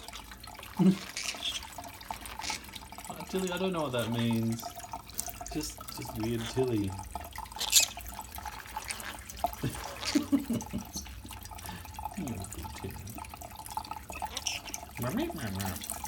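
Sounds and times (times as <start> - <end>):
tap water running into sink: 0.0 - 16.0
water splashes: 0.0 - 16.0.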